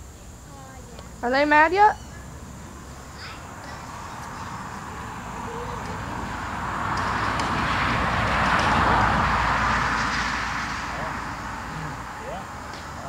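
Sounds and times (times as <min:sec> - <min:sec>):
vehicle passing on road: 0:01.1 - 0:13.0.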